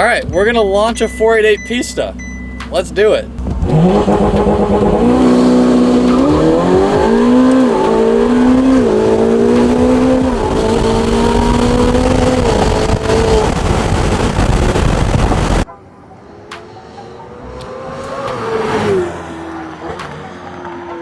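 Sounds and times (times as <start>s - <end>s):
sports car engine accelerating hard: 1.9s - 21.0s.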